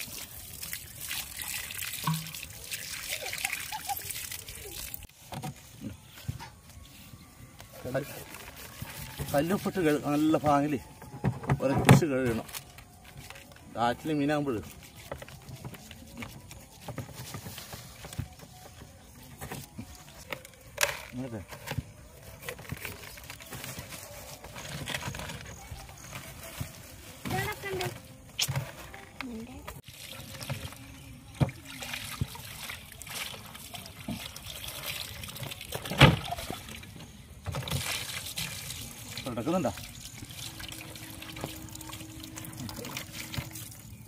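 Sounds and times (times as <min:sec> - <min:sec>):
water trickling and splashing: 0:00.0 - 0:05.9, 0:07.7 - 0:44.0.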